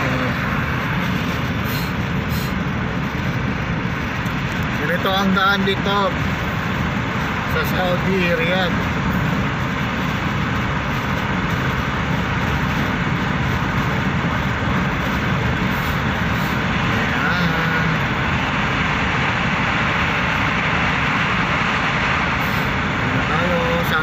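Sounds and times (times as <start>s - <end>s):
car cabin road and engine noise: 0.0s - 24.0s.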